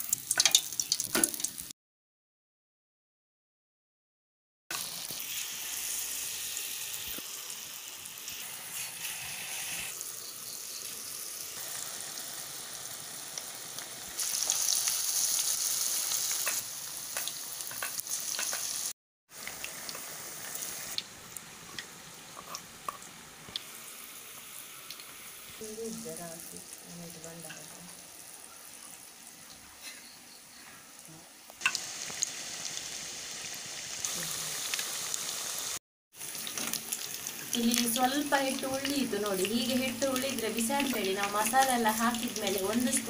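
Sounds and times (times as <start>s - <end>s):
food deep-frying in oil: 0.0s - 1.7s, 4.7s - 43.0s.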